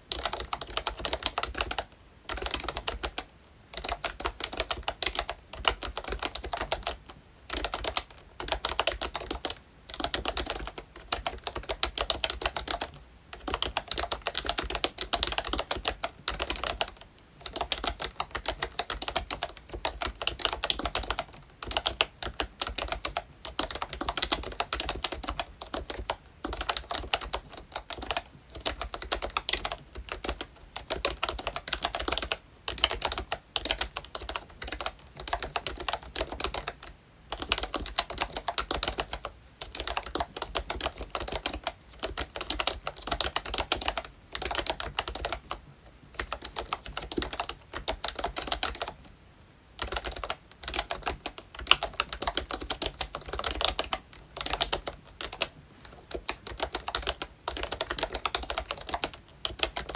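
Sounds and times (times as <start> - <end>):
fast typing on a keyboard: 0.0 - 49.0, 49.8 - 59.9.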